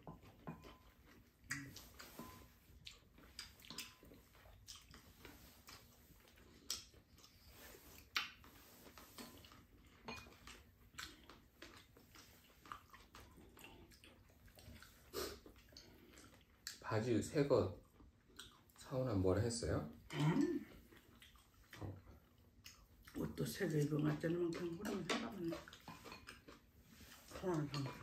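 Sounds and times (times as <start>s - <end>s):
chewing: 0.0s - 17.0s, 17.7s - 19.1s, 19.9s - 28.0s.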